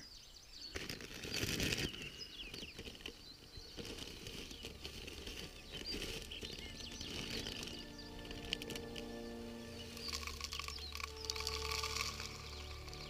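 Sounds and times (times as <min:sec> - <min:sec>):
birds chirping: 0:00.0 - 0:13.0
camping gear rustling and crinkling: 0:00.0 - 0:13.0.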